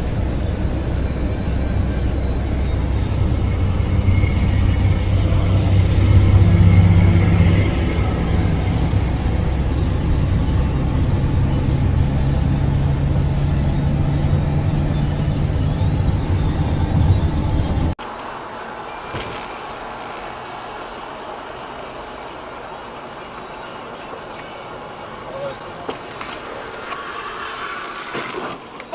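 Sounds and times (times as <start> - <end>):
car engine humming: 0.0 - 28.9
road noise: 0.0 - 28.9.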